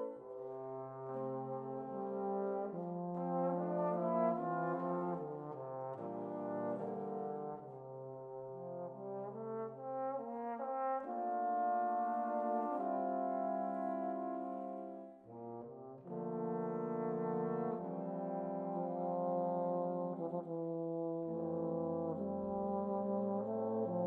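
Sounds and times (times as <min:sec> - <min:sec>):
trombone ensemble playing chords: 0:00.0 - 0:24.0.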